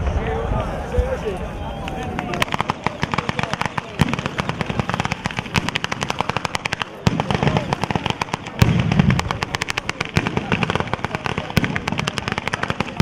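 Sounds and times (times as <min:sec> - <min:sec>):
rattle of firecracker bangs: 0:02.2 - 0:13.0
heavy firework booms: 0:02.4 - 0:13.0.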